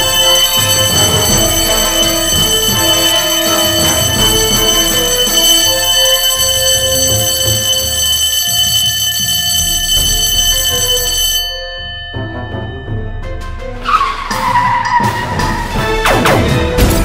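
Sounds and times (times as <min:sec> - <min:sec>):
alarm bell ringing: 0:00.0 - 0:14.2.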